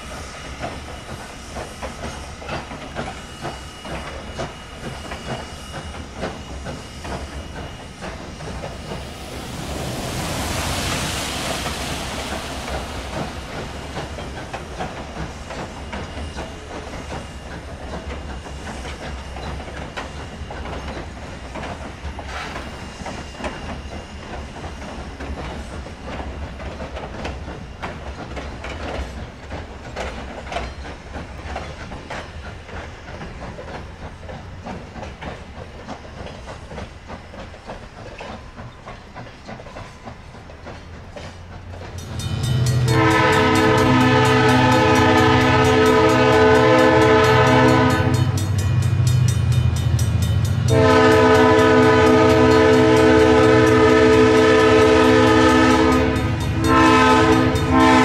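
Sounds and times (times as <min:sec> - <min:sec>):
steam hiss: 0:00.0 - 0:58.0
train wheels clicking over rail joints: 0:00.0 - 0:58.0.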